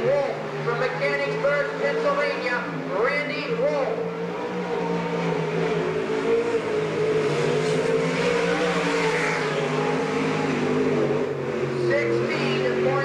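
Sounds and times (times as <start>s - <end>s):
race car engine running hard: 0.0s - 13.0s.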